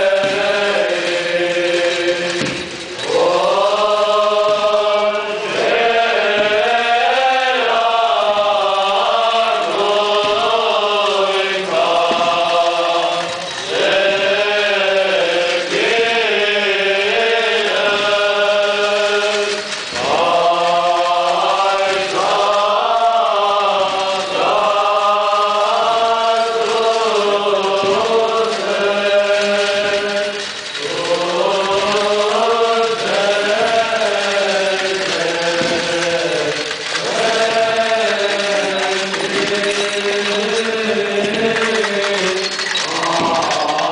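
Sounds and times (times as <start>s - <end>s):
group of voices chanting: 0.0s - 43.9s.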